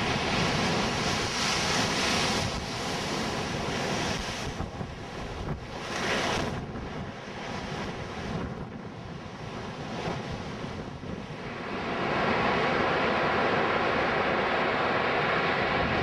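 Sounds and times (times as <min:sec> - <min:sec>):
surf breaking and rushing ashore: 0:00.0 - 0:16.0
wind buffeting microphone: 0:00.0 - 0:16.0.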